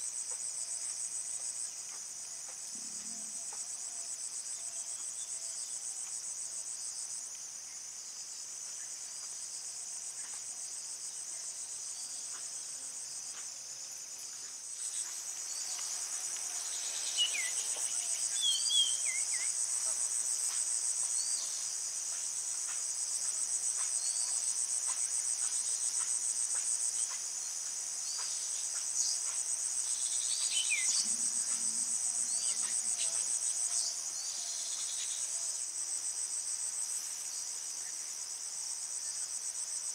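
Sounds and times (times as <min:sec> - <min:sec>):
high-pitched insect chorus trilling: 0:00.0 - 0:39.9.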